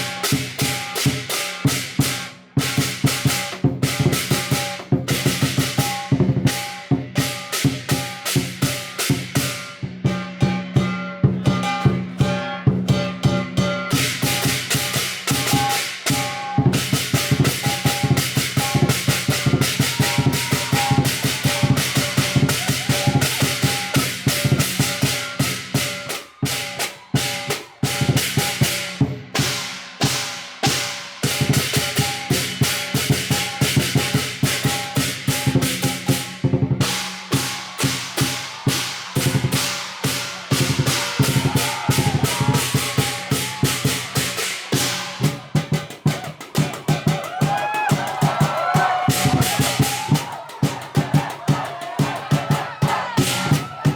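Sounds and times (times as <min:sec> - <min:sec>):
crashing cymbals: 0:00.0 - 0:47.2
drum beaten fast: 0:00.0 - 0:53.9.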